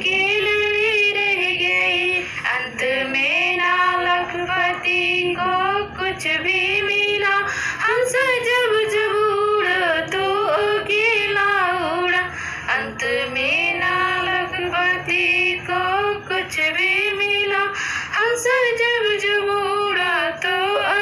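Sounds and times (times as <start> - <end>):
woman singing solo: 0.0 - 21.0.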